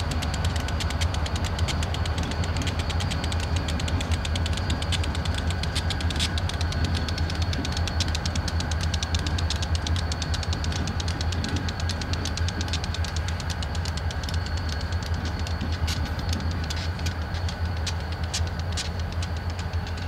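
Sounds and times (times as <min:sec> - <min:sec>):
fast even ticking: 0:00.0 - 0:20.0
locomotive engines droning: 0:00.0 - 0:20.0.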